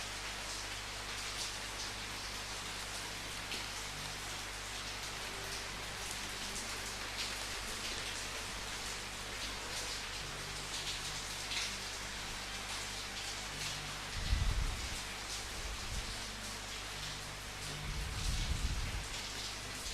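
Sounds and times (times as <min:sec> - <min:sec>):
raindrops pattering on surface: 0:00.0 - 0:19.9
steady rain hiss: 0:00.0 - 0:19.9.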